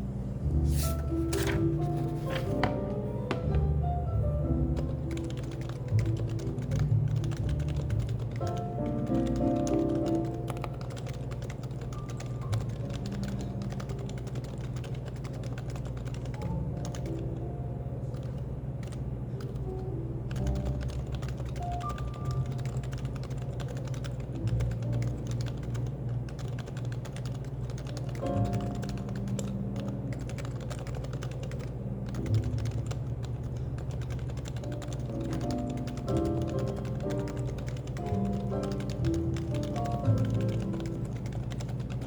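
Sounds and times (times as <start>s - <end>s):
faint music: 0.0s - 42.0s
keyboard typing: 0.7s - 42.0s.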